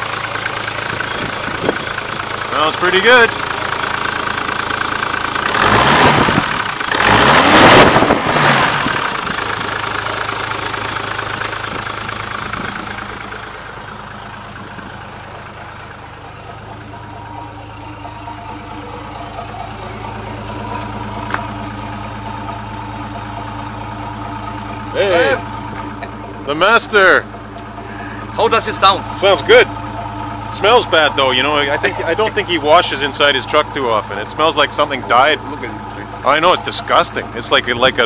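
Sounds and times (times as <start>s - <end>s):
diesel truck engine revving and idling: 0.0s - 38.0s.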